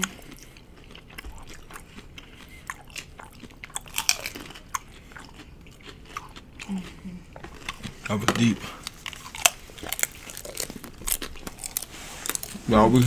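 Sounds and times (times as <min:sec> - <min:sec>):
crunching taco shells: 0:00.0 - 0:13.0.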